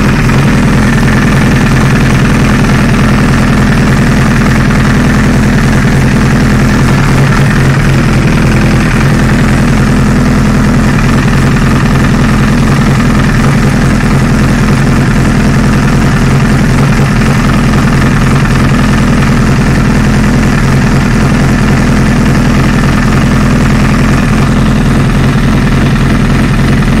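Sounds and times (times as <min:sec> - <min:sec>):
motorcycle engine idling with rattle: 0:00.0 - 0:27.0.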